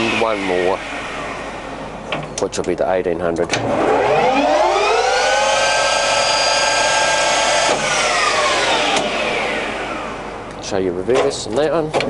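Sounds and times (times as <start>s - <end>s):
lathe headstock whine: 0.0s - 2.6s, 3.6s - 10.8s.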